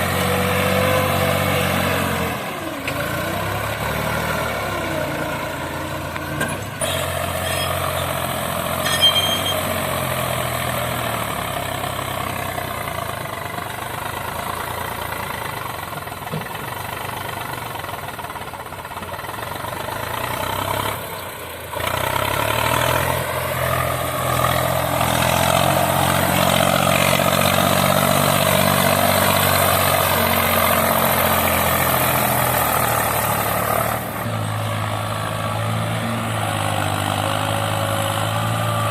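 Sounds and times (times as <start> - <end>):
diesel tractor engines running hard: 0.0 - 38.9.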